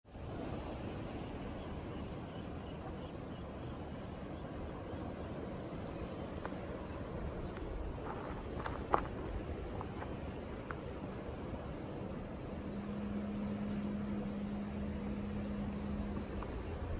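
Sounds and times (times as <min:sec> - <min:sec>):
low background rumble: 0:00.1 - 0:16.9
small birds chirping: 0:01.2 - 0:16.9.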